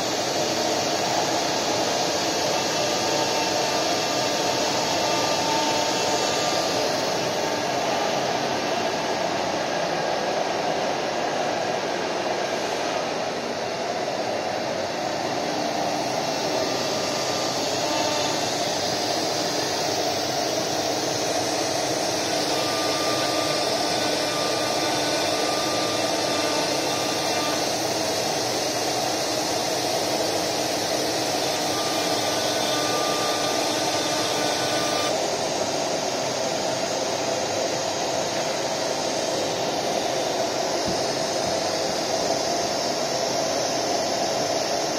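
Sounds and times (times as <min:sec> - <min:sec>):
router spindle motors whirring: 0:00.0 - 0:10.8, 0:12.0 - 0:44.9
machining hiss: 0:00.0 - 0:44.9.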